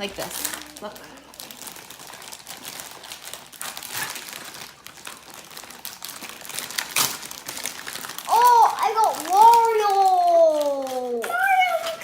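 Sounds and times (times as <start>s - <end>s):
toy packet crinkling: 0.0s - 12.0s.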